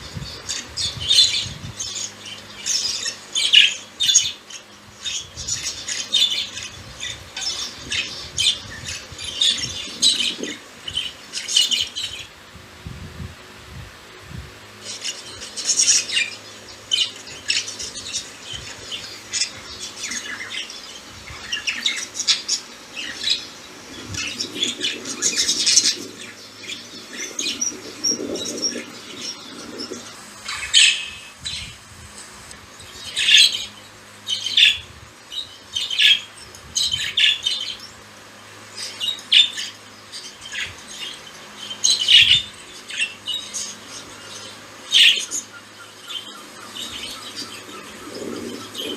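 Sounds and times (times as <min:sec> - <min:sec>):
budgies chirping and squawking: 0:00.0 - 0:12.3, 0:14.8 - 0:31.8, 0:32.9 - 0:38.0, 0:38.6 - 0:48.9.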